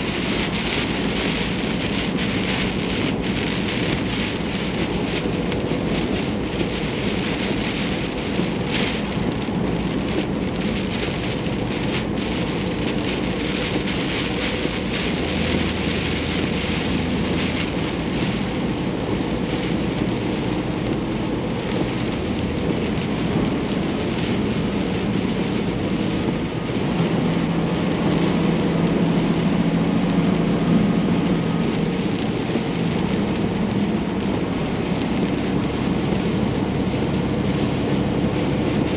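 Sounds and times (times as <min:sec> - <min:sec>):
heavy rain on a vehicle: 0:00.0 - 0:38.9.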